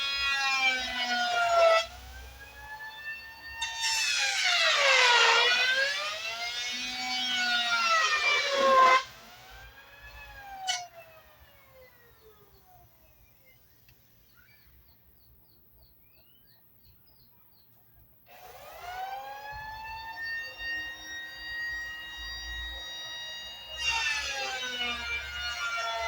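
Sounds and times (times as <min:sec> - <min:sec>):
electric planer whine: 0:00.0 - 0:14.4, 0:18.3 - 0:26.0.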